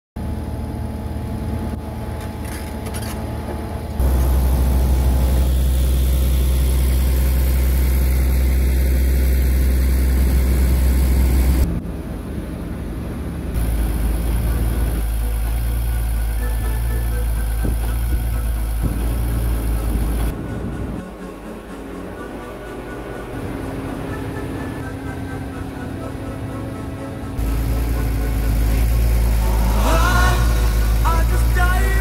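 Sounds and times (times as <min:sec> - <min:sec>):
heavy machinery engine running: 0:00.2 - 0:32.0.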